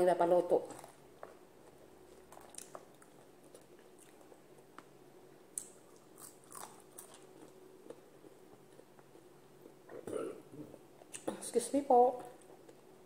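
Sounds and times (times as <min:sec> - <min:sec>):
person chewing food: 0:00.7 - 0:11.2, 0:12.3 - 0:13.0.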